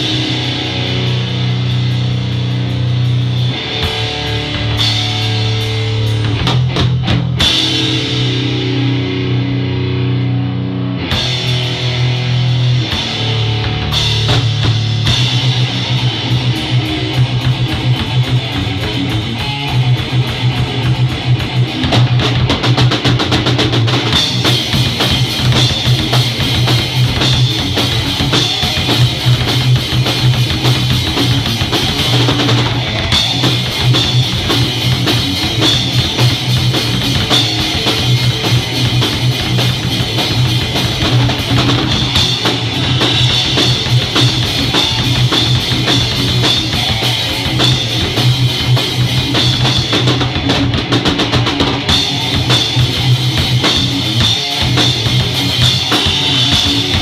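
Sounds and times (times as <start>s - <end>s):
drum kit played hard: 0.0s - 57.0s
rock music with guitar: 0.0s - 57.0s.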